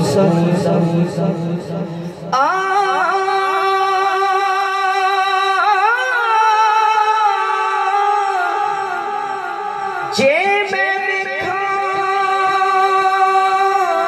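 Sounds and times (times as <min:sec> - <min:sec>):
man singing unaccompanied: 0:00.0 - 0:09.1, 0:09.8 - 0:14.0.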